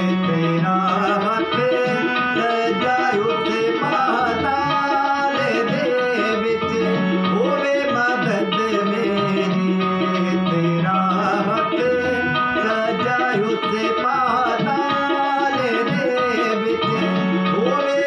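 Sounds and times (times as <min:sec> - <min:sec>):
harmonium chords: 0:00.0 - 0:18.0
man singing: 0:00.0 - 0:18.0.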